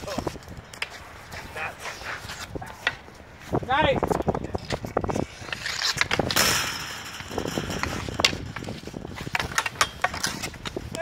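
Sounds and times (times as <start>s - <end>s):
hockey sticks clacking: 0.0s - 3.2s, 4.0s - 11.0s
stick scraping: 0.0s - 3.6s, 4.5s - 11.0s.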